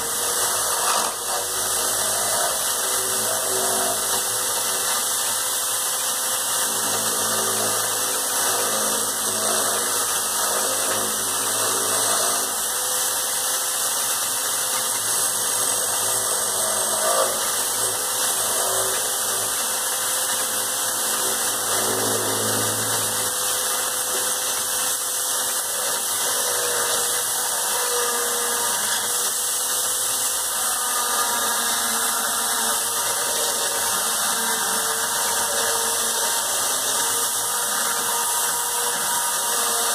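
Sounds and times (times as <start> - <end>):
electric drill motor whine: 0.0 - 39.9
tool scraping spinning wood: 0.0 - 39.9.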